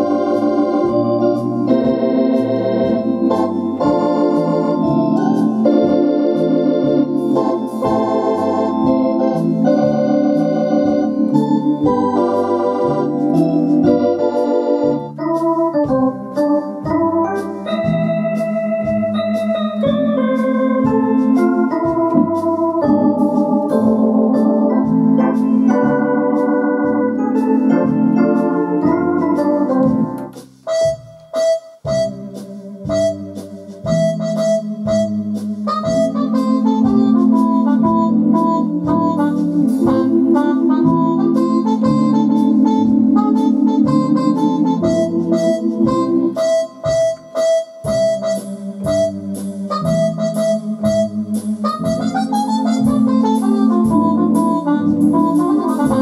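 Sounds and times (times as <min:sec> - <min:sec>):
electronic organ playing foxtrot: 0:00.0 - 0:56.0.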